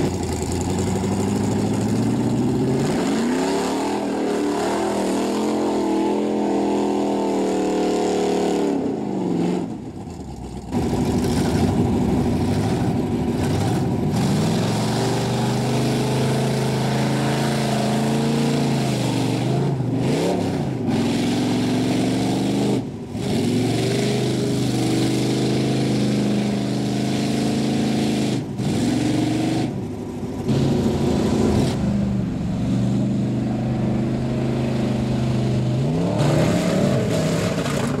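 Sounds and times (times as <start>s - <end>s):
truck engines revving: 0.0s - 38.0s.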